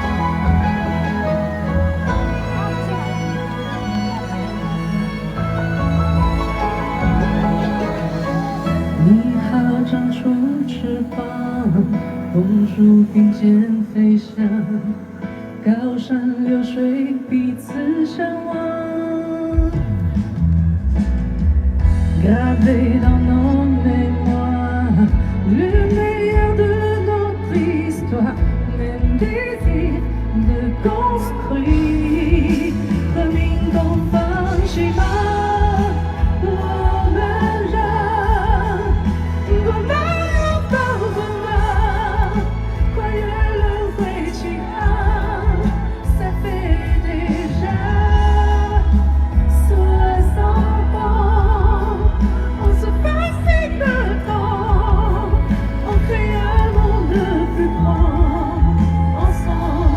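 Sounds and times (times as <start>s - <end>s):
band playing: 0.0s - 17.0s, 19.4s - 59.9s
woman singing with vibrato: 0.0s - 20.2s, 22.1s - 59.9s.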